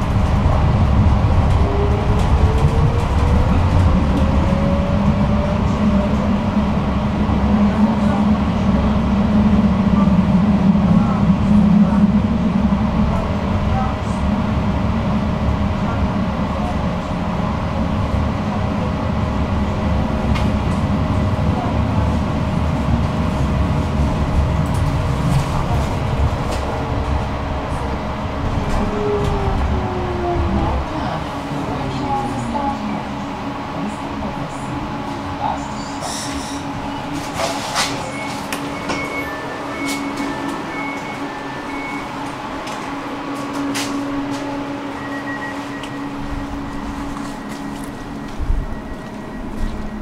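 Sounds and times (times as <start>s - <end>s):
tram wheels rumbling: 0.0s - 50.0s.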